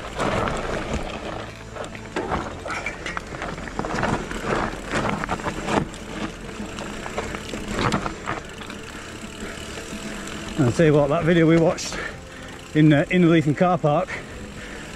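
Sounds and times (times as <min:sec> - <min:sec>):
bike rattling and clattering: 0:00.0 - 0:14.9.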